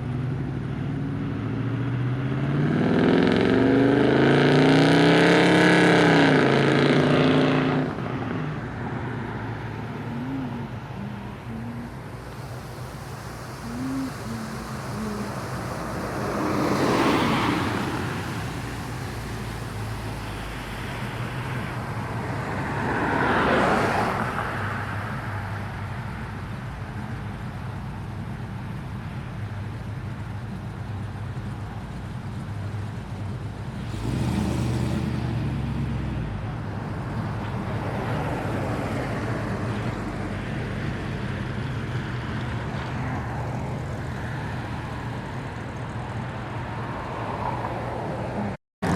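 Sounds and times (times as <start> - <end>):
cars driving past: 0.0 - 48.9
low hum of traffic: 0.0 - 48.9
vehicle engine rumble: 0.0 - 48.9.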